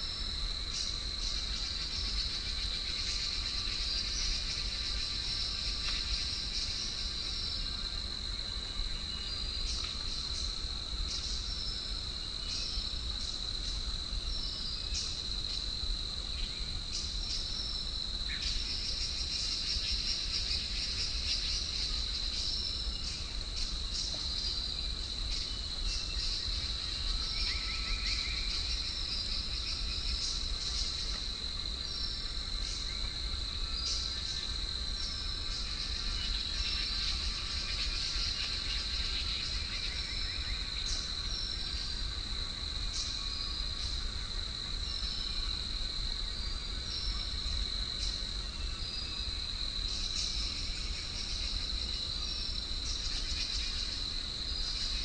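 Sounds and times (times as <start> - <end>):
insect trill: 0.0 - 55.0
insects buzzing drone: 0.0 - 55.0.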